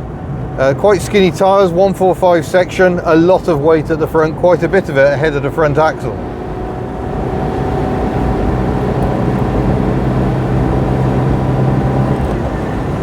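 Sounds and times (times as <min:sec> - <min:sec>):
car engine drone: 0:00.0 - 0:13.0
road and tyre noise: 0:00.0 - 0:13.0.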